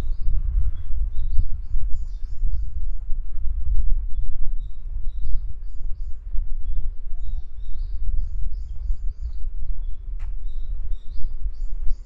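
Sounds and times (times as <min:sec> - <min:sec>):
low rumble: 0:00.0 - 0:12.0
small birds chirping: 0:00.0 - 0:12.0.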